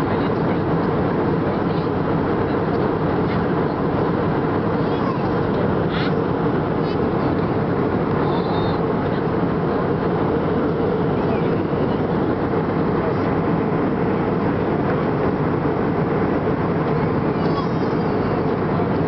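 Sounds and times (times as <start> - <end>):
airliner cabin engine hum: 0.0 - 19.0.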